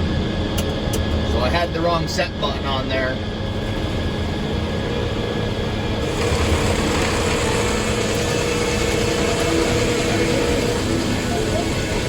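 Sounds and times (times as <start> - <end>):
sawmill rumble and hum: 1.0 - 12.0.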